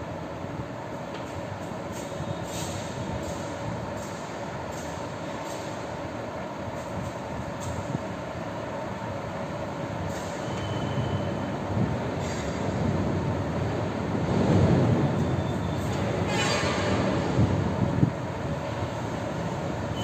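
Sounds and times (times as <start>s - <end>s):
continuous rumbling noise: 0.0s - 20.0s.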